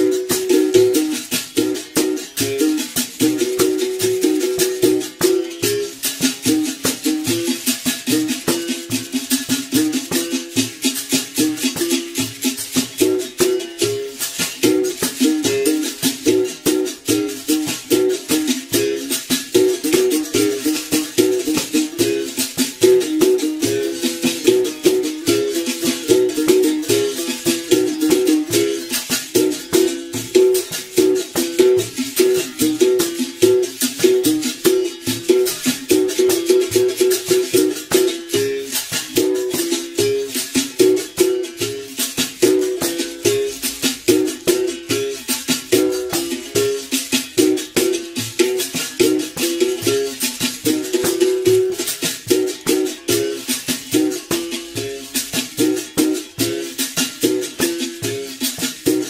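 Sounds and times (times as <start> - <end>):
basket rattle shaking: 0.0 - 59.0.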